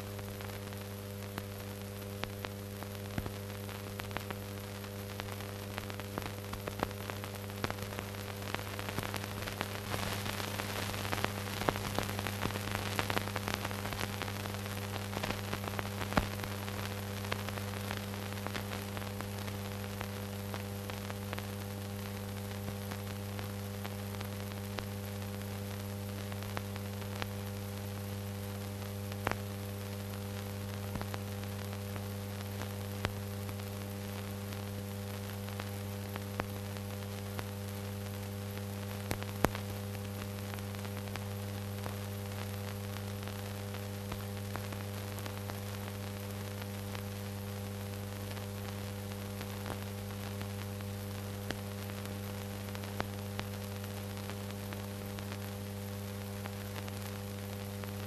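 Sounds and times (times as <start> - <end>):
electrical mains hum: 0.0 - 58.0
film hiss: 0.0 - 58.0.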